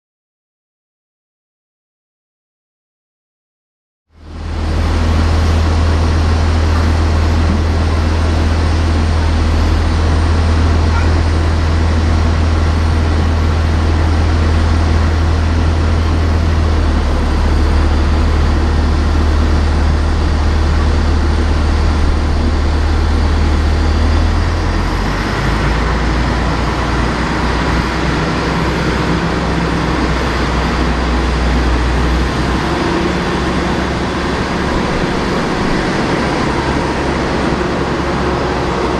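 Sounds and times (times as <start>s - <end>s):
airliner engine drone: 4.1s - 38.9s
broad rushing noise: 4.2s - 38.9s.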